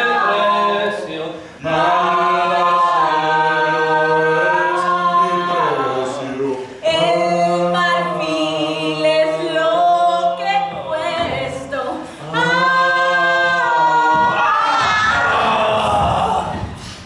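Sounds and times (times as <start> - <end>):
voices singing in harmony: 0.0 - 17.0.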